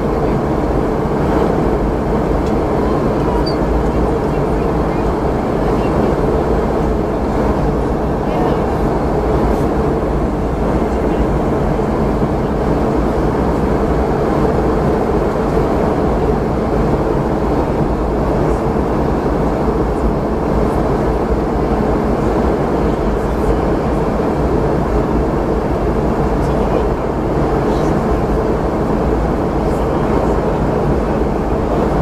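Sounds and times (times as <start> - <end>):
airplane cabin noise: 0.0 - 32.0
jet engine hum: 0.0 - 32.0.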